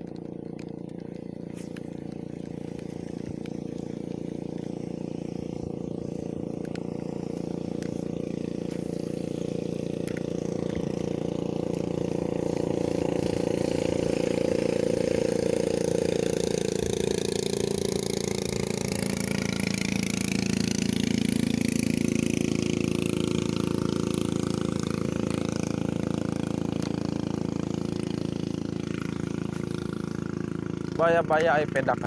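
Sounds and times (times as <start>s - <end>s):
small boat engine running: 0.0s - 32.0s.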